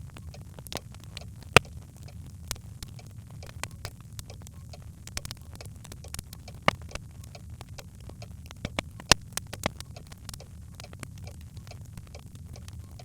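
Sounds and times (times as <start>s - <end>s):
logs crackling in fireplace: 0.0s - 13.0s
low fire rumble: 0.0s - 13.0s.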